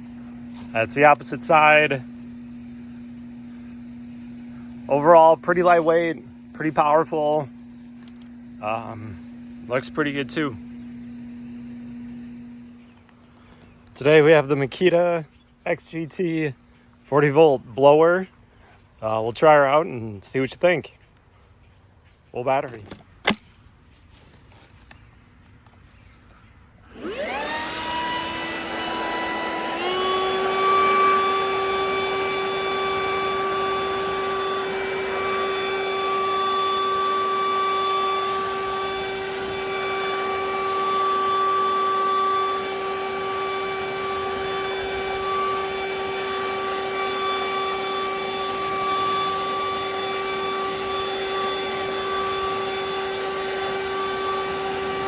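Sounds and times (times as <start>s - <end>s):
leaf blower fan whine: 0.0s - 21.3s, 22.5s - 55.0s.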